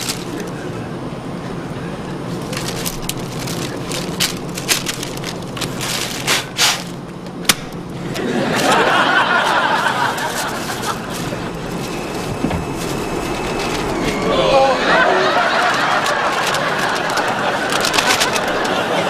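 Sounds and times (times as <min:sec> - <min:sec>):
paper bag crinkling: 0:00.0 - 0:00.6, 0:02.3 - 0:07.1, 0:08.2 - 0:19.0
airliner cabin hum: 0:00.0 - 0:19.0.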